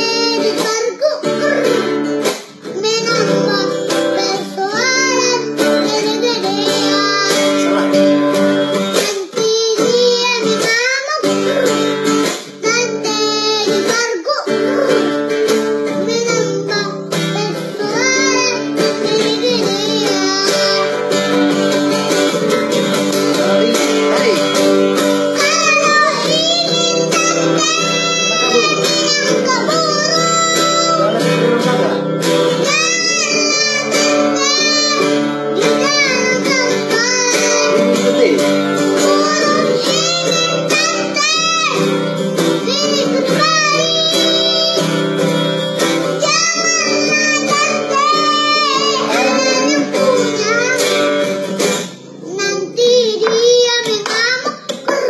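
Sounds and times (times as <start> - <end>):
acoustic guitar: 0.0 - 55.0
boy singing: 0.0 - 55.0.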